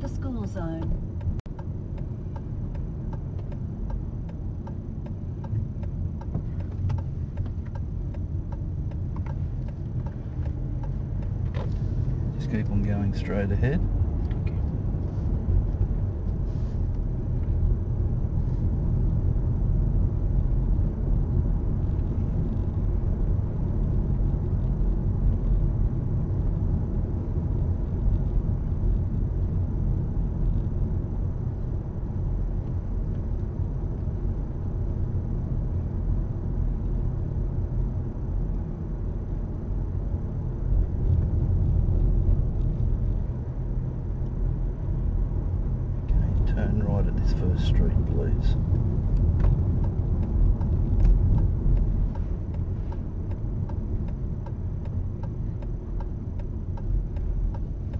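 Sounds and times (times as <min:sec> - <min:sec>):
car cabin road noise: 0:00.0 - 0:57.9.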